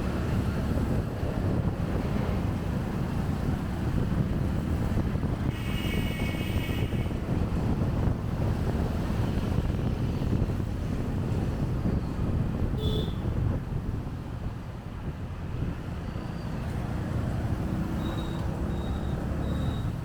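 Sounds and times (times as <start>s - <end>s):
wind buffeting microphone: 0.0s - 18.6s.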